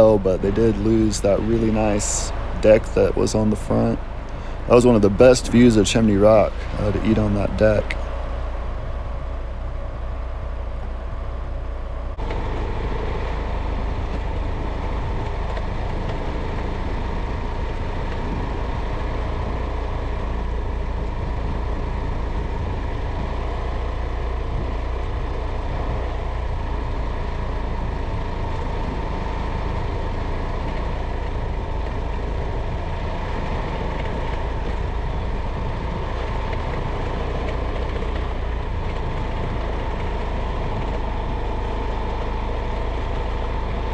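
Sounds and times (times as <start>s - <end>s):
faint steady hum: 0.0s - 43.9s
vehicle engine and tyre rumble: 0.0s - 43.9s.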